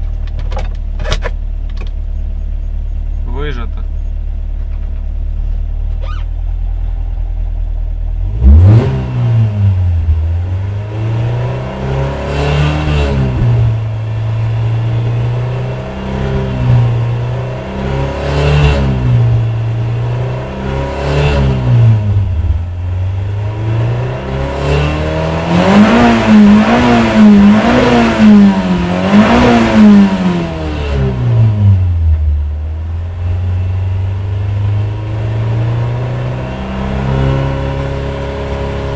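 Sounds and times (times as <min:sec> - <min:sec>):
car engine revving: 0:03.0 - 0:38.9.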